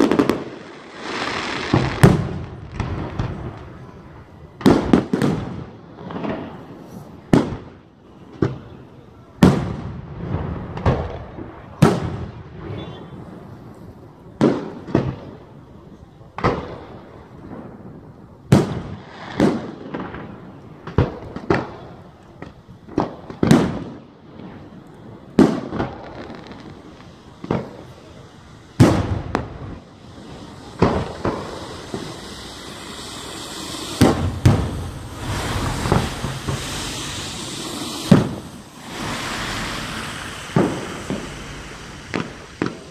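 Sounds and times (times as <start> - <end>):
fireworks bursting with echo: 0.0 - 42.9.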